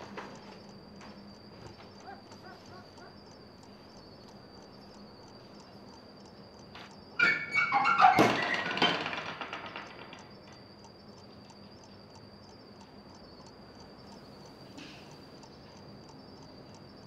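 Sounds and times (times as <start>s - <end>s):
soft ticks: 0.0s - 7.2s, 9.4s - 17.0s
faint high whine: 0.0s - 17.0s.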